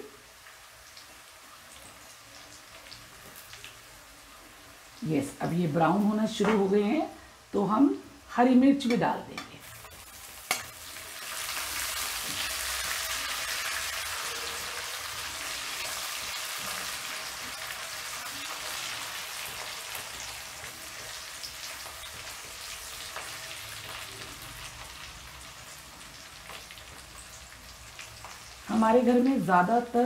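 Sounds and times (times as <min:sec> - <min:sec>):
chillies sizzling in hot oil: 0:00.0 - 0:30.0.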